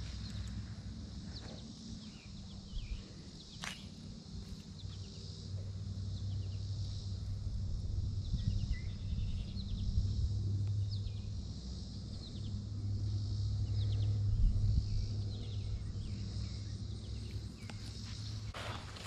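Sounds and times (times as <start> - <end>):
high insect drone: 0.0 - 19.0
low steady hum: 0.0 - 19.0.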